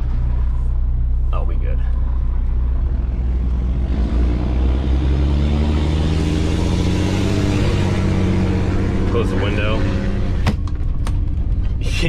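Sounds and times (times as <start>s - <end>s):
diesel engine accelerating: 0.0s - 12.0s.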